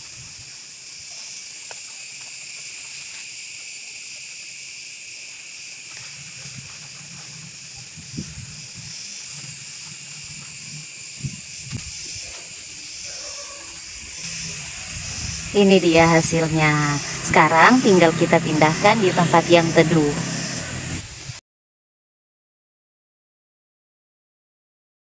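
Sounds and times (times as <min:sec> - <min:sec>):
steady high hiss: 0:00.0 - 0:21.4.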